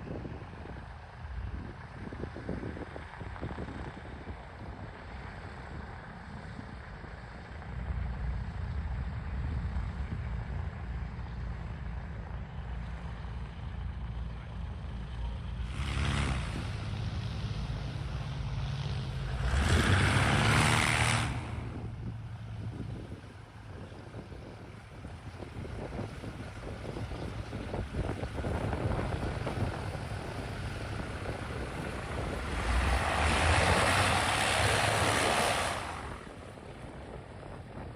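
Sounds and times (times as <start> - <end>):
biplane engine in flight: 0.0 - 37.9.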